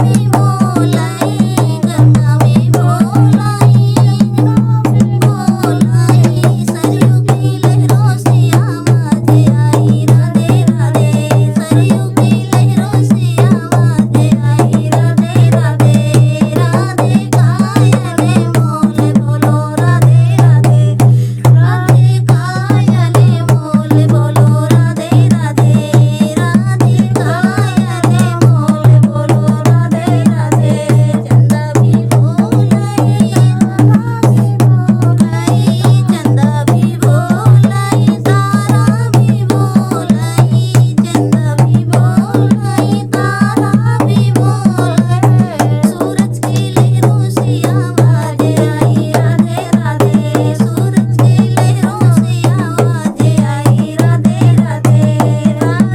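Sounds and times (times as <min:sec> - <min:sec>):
fast hand-drum rhythm: 0:00.0 - 0:55.9
person singing devotional song: 0:00.0 - 0:55.9.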